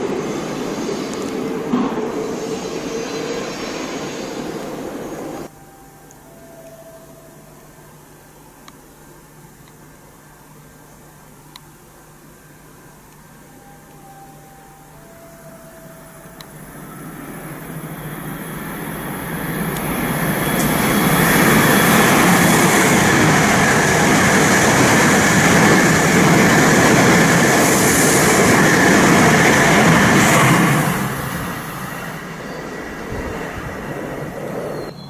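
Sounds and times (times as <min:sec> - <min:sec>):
high-speed train passing: 0:00.0 - 0:08.0, 0:13.4 - 0:35.0.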